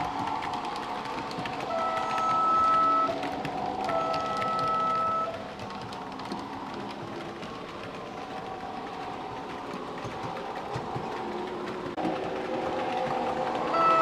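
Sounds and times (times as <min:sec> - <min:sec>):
model locomotive running: 0:00.0 - 0:14.0.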